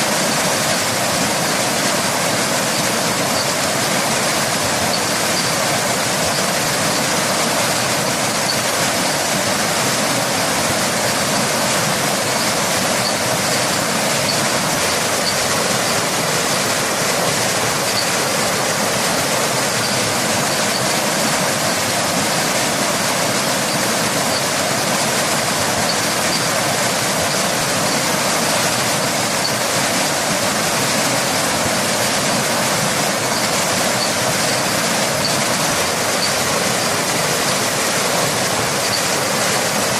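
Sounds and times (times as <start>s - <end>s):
rain: 0.0s - 39.9s
waterfall rushing: 0.0s - 39.9s.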